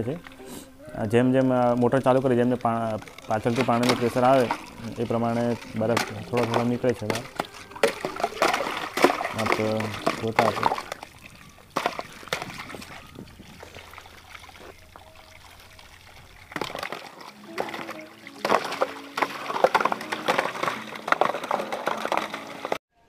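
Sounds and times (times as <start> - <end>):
water gushing and splashing from pipe: 1.4 - 22.8.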